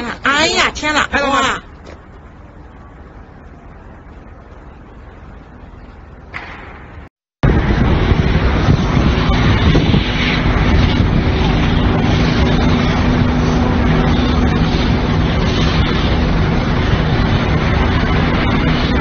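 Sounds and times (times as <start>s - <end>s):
traffic rumble: 0.0s - 19.0s
wind: 0.0s - 19.0s.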